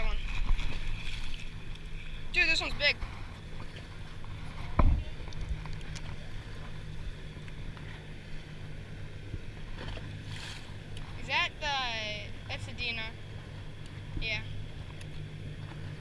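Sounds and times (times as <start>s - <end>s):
distant motorboat engine droning: 0.0s - 16.0s.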